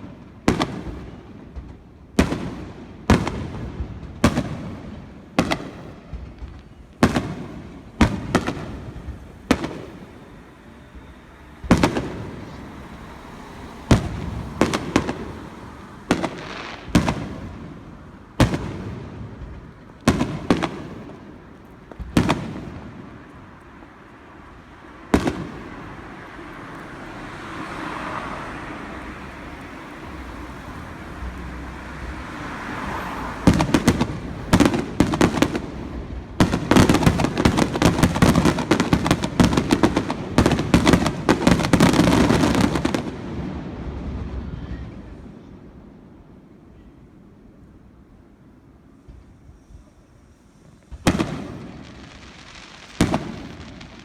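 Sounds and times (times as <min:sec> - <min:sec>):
fireworks exploding: 0:00.0 - 0:46.9, 0:48.9 - 0:54.0
fireworks rumble and hiss: 0:00.0 - 0:54.0.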